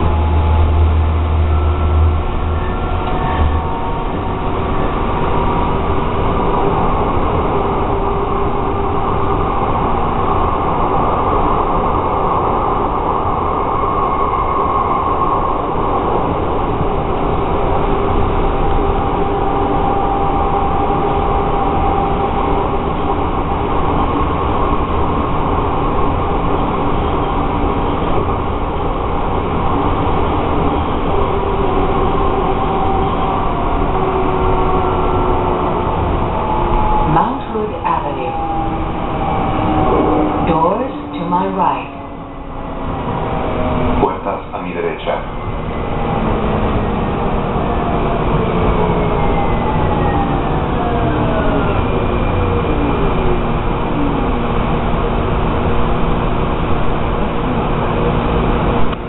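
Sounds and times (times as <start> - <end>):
faint whining tones: 0.0 - 59.0
light rail train running on track: 0.0 - 59.0.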